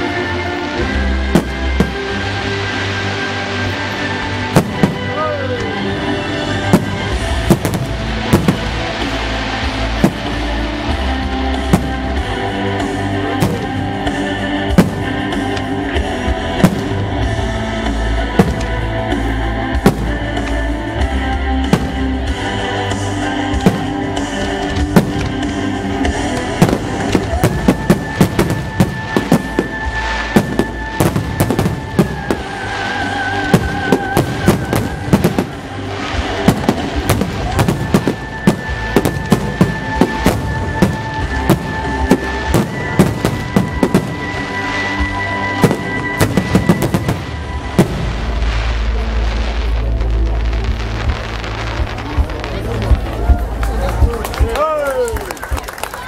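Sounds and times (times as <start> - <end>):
music: 0.0 - 56.0.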